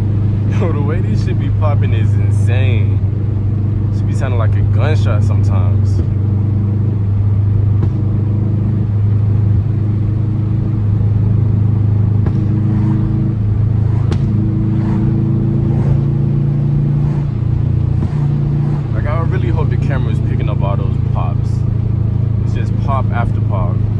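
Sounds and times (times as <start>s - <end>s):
car engine rumbling: 0.0s - 23.9s
exhaust pops: 0.0s - 23.9s.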